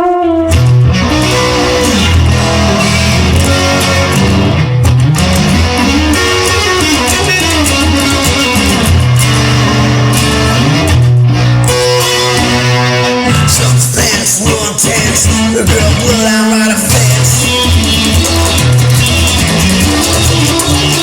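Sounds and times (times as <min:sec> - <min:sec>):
bass: 0:00.0 - 0:21.0
instrumental guitar with bending notes: 0:00.0 - 0:21.0.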